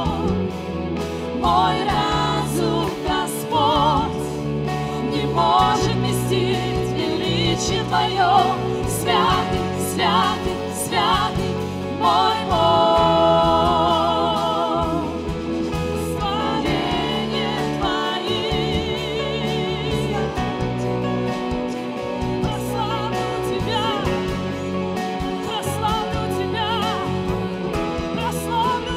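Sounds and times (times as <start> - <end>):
band of guitars keyboards and bass: 0.0 - 28.9
women singing with vibrato: 0.0 - 28.9.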